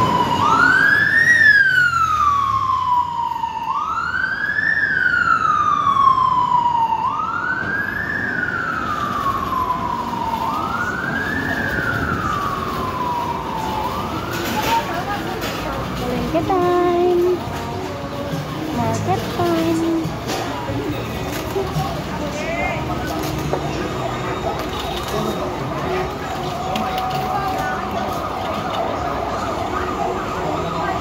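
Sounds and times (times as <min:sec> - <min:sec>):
emergency siren wailing: 0:00.0 - 0:31.0
street traffic: 0:00.0 - 0:31.0.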